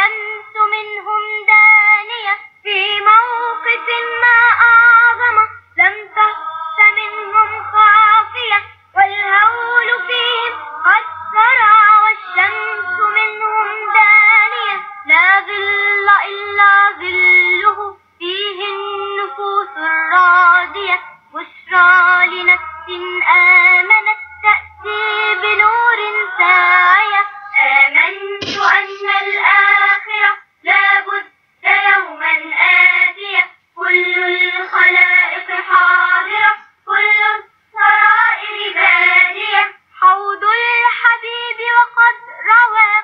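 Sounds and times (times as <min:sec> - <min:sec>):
child singing: 0:00.0 - 0:43.0.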